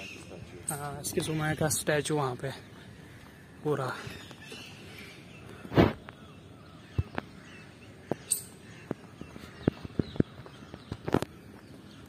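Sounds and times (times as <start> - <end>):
footsteps on paved path: 0.0 - 12.0.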